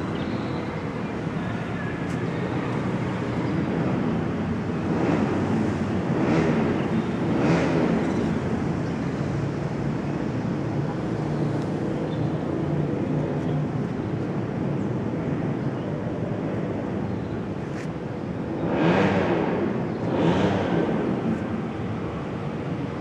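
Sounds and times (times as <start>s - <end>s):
distant city traffic rumble: 0.0s - 23.0s.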